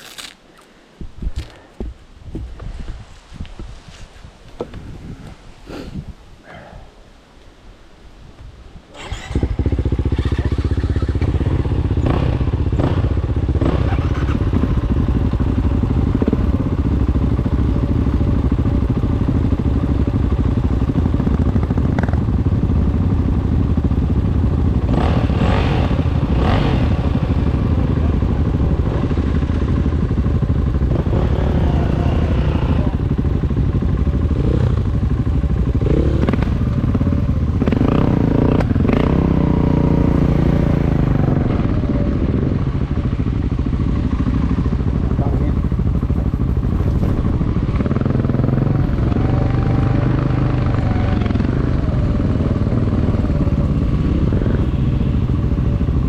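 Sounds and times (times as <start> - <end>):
dirt bike engine running: 9.2 - 56.0.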